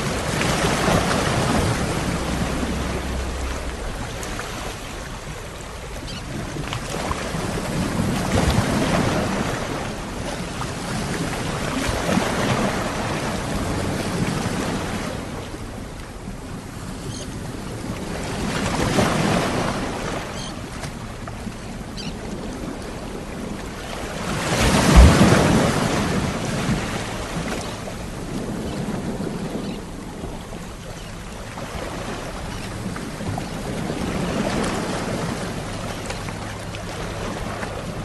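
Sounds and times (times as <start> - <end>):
sea waves washing in: 0.0 - 38.0.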